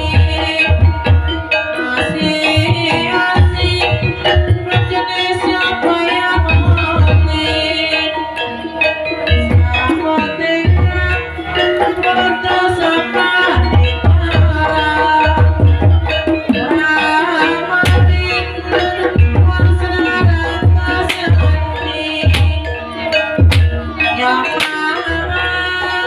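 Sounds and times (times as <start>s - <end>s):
hand drum beating: 0.0s - 26.0s
metallophones ringing: 0.0s - 26.0s.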